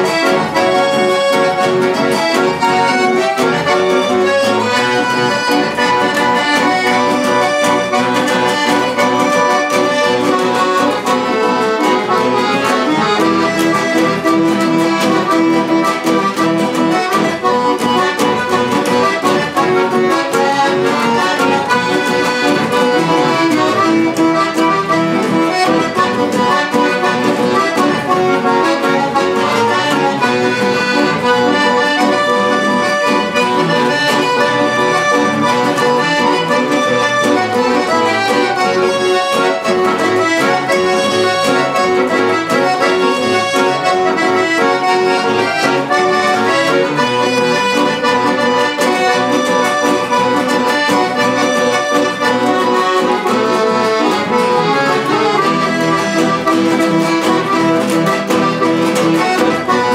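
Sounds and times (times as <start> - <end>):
acoustic guitars strumming: 0.0 - 59.9
piano accordion playing: 0.0 - 59.9.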